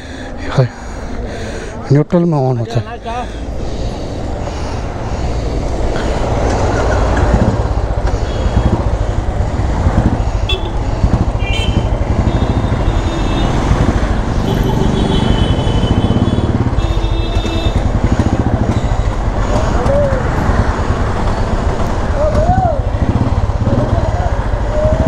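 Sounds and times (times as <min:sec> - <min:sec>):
street traffic: 0:00.0 - 0:25.0
motorcycle engine running: 0:03.4 - 0:25.0.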